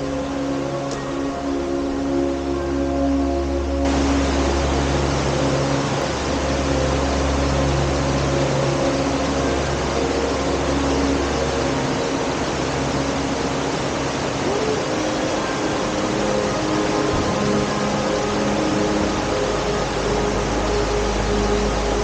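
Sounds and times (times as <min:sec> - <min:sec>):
soft background music: 0:00.0 - 0:22.0
stream rushing over rocks: 0:00.0 - 0:22.0.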